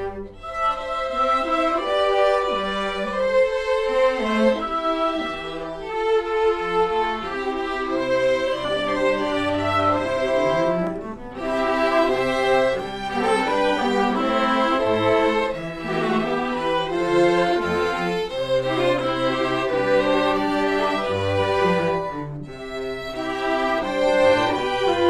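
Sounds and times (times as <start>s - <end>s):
string ensemble playing: 0.0s - 25.0s.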